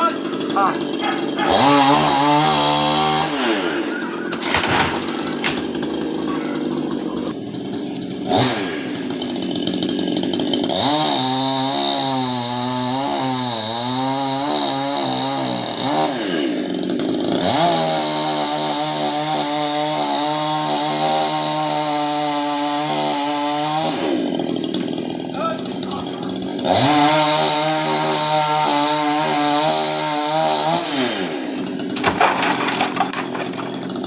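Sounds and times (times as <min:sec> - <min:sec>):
chainsaw idling and revving: 0:00.0 - 0:34.0.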